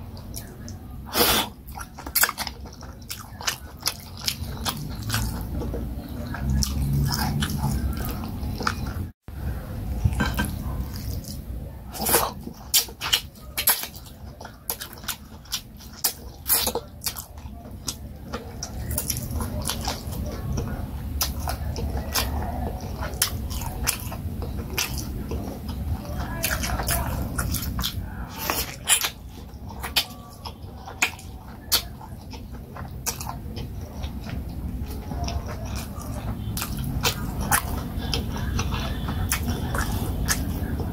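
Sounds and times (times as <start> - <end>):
chewing and biting meat: 0.0 - 9.2, 9.9 - 40.9.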